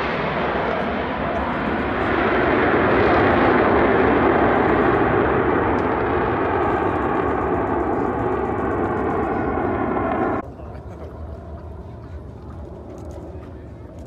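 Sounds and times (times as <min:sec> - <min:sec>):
jet roar: 0:00.0 - 0:14.0.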